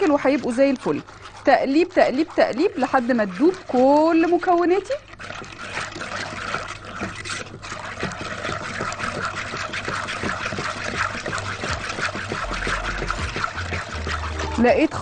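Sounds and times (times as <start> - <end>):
milk stirred briskly in a pot: 0.0 - 15.0
spoon scraping pot: 0.0 - 15.0.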